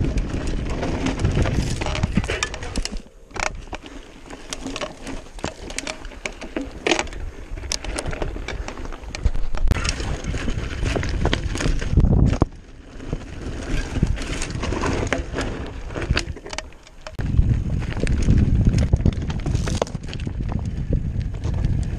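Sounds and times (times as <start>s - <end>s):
wind buffeting microphone: 0.0s - 3.8s, 7.0s - 16.4s, 17.1s - 21.9s
bike rattling and clicking: 0.0s - 21.9s
tyres crunching on rocks: 0.0s - 21.9s.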